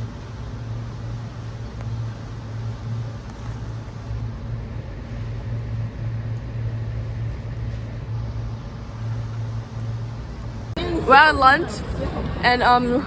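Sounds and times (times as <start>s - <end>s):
faint background noise: 0.0s - 13.0s
low mechanical hum: 0.0s - 13.0s.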